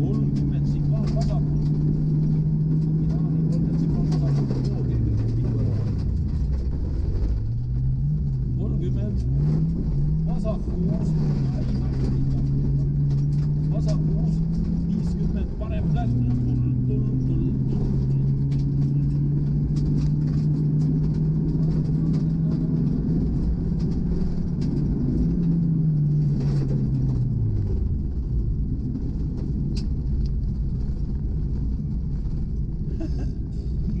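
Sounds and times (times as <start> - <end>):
rally car engine pulling hard: 0.0 - 34.0.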